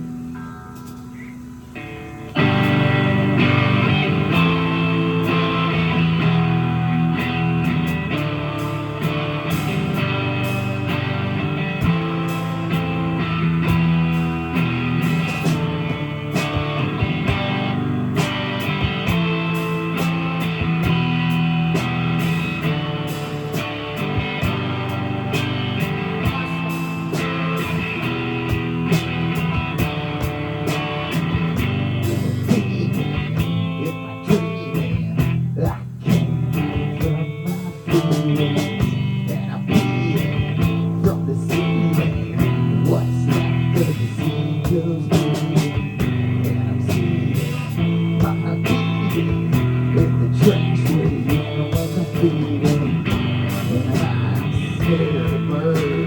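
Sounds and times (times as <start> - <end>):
lead guitar: 0.0 - 56.0
live rock band playing: 0.0 - 56.0
sustained bass notes: 0.0 - 56.0.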